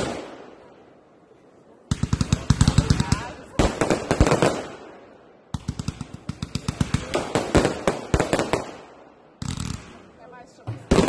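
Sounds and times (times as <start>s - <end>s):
fireworks banging and crackling: 0.0s - 0.9s, 1.8s - 11.0s.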